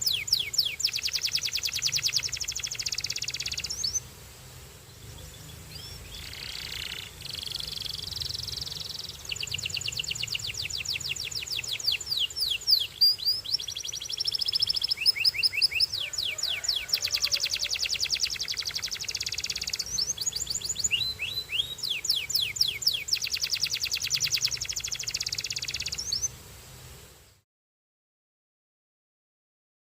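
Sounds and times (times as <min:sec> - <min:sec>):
canary singing trills: 0:00.0 - 0:04.1, 0:05.0 - 0:26.3.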